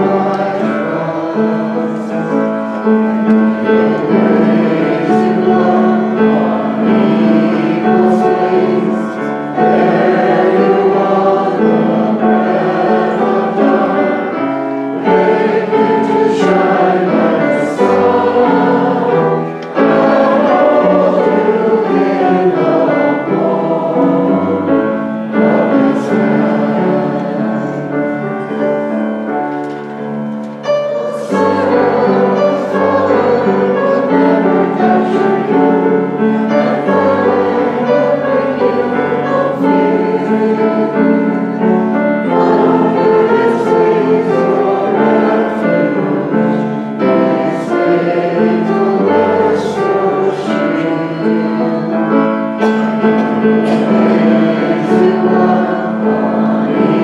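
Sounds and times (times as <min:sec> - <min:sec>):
congregation singing a hymn: 0:00.0 - 0:57.0
keyboard accompaniment: 0:00.0 - 0:57.0.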